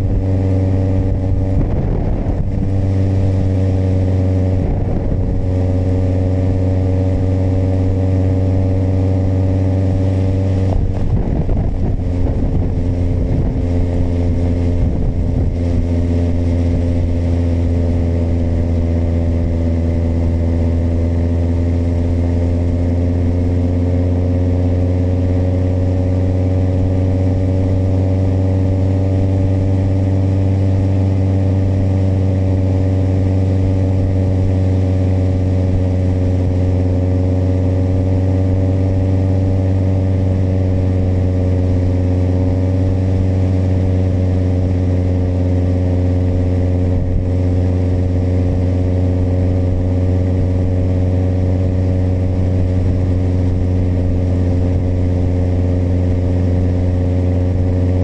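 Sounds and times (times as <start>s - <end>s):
motorcycle engine running: 0.0s - 58.0s
short rough rumbles: 0.0s - 58.0s.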